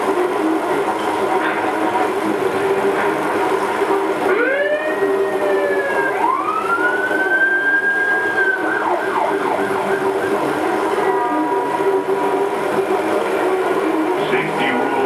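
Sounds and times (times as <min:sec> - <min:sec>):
emergency vehicle siren: 0:02.8 - 0:15.0.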